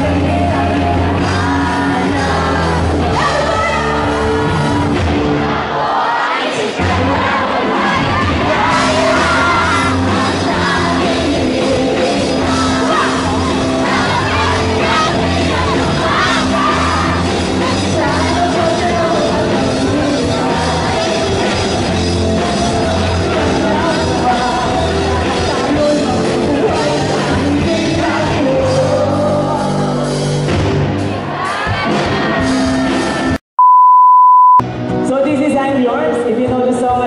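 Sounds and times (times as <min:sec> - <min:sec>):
live rock band playing: 0:00.0 - 0:05.6, 0:06.8 - 0:33.4
crowd yelling and singing along: 0:00.0 - 0:33.4.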